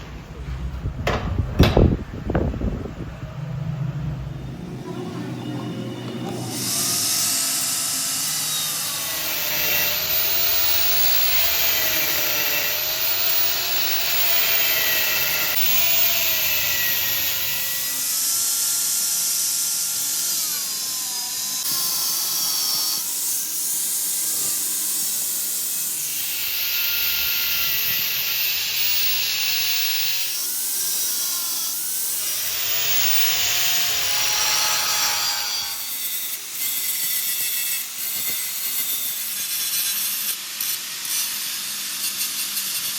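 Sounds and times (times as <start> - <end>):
power tool grinding metal: 4.5 - 42.9.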